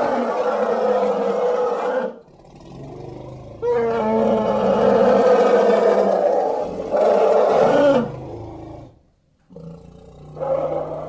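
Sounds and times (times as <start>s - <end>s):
elephant roaring calls: 0.0s - 11.0s.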